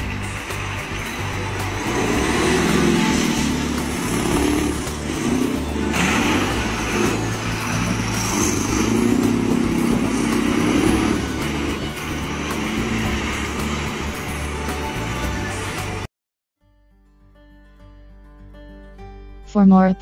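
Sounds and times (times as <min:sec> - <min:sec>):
truck diesel engine revving: 0:00.0 - 0:16.1.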